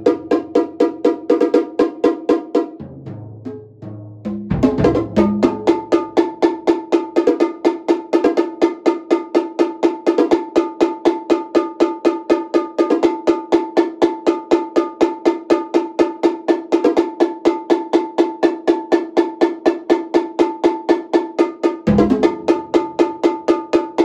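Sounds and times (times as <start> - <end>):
congas and drums played with sticks: 0.0 - 24.0.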